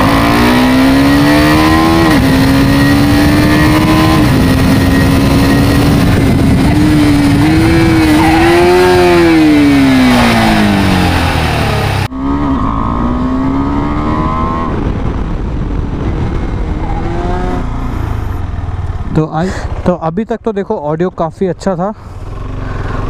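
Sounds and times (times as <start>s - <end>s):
motorcycle engine accelerating: 0.0s - 20.0s, 22.0s - 23.0s.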